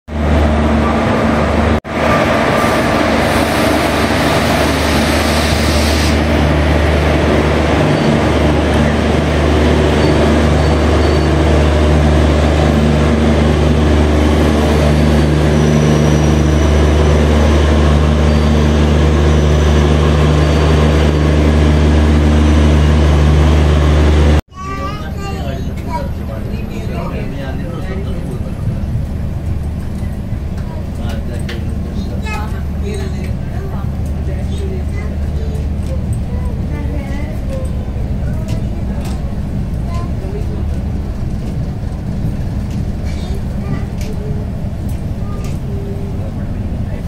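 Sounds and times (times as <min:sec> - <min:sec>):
train machinery hum: 0:00.1 - 0:47.0.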